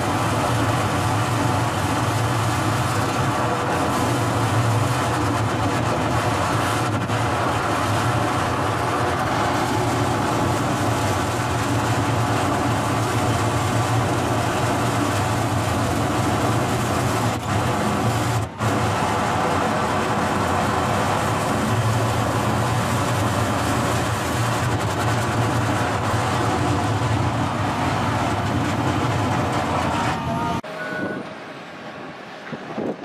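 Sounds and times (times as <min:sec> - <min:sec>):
excavator engine running: 0:00.0 - 0:33.0.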